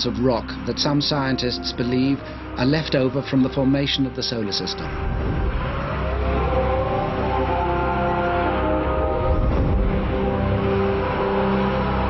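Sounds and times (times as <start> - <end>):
spacecraft engine rumble: 0.0 - 12.0.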